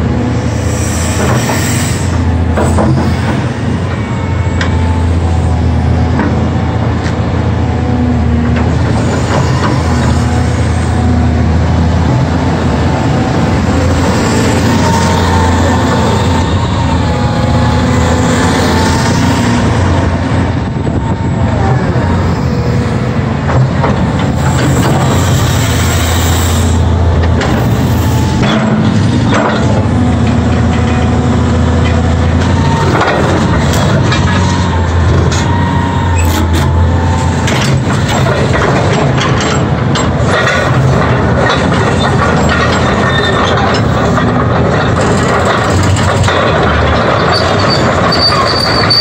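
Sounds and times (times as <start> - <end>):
diesel engine humming: 0.0 - 49.0
hydraulic pumps whining: 0.1 - 49.0.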